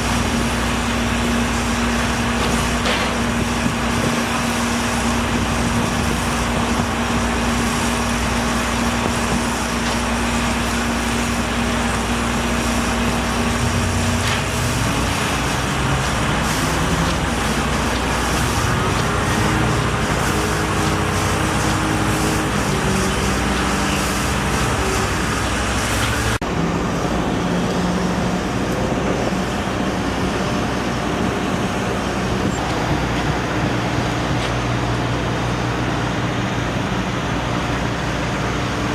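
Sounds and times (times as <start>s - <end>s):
heavy engines running: 0.0s - 38.9s
road traffic noise: 0.0s - 38.9s.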